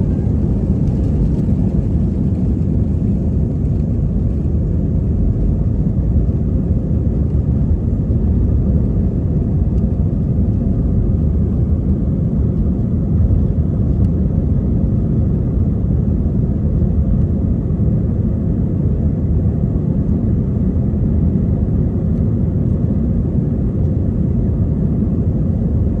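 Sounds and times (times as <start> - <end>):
airliner engine and airflow noise: 0.0 - 26.0.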